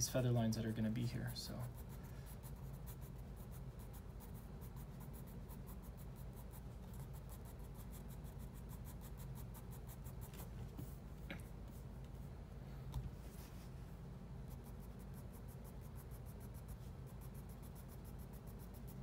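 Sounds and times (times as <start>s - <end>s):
pencil scratching on paper: 0.1s - 11.9s, 14.4s - 19.0s.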